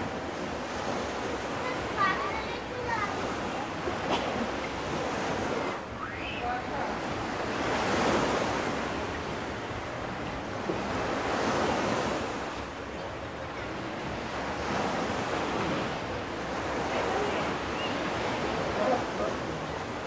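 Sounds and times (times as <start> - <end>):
waves washing on sandy beach: 0.0 - 20.0.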